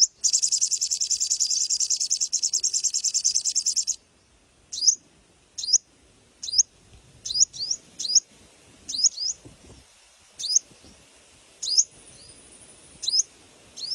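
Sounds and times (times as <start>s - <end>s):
songbird chirping: 0.0s - 8.3s, 8.9s - 9.5s, 10.4s - 13.9s.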